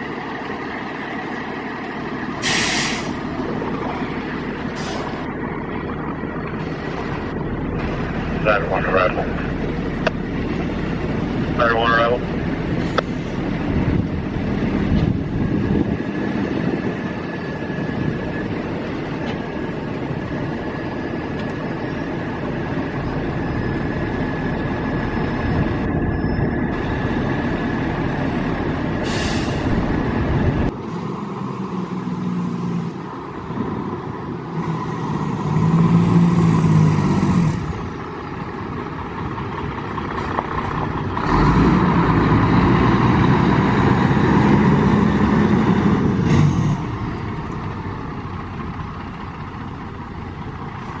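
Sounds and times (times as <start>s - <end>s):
diesel engines rumbling: 0.0s - 51.0s.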